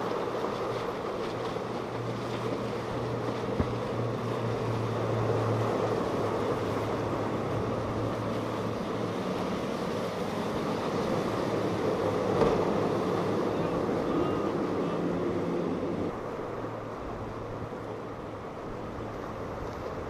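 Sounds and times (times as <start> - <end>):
outboard engines droning: 0.0 - 20.0
rushing water and wake: 0.0 - 20.0.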